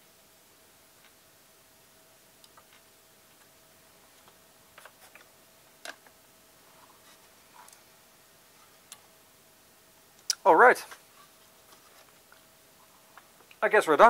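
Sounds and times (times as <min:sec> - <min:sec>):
faint thin whine: 0:00.0 - 0:14.0.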